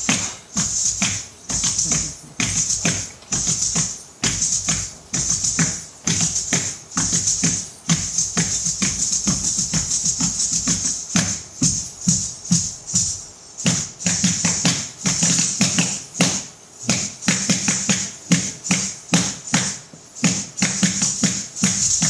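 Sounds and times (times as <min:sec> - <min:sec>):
jingling bells: 0:00.0 - 0:22.0
percussive dance music: 0:00.0 - 0:22.0.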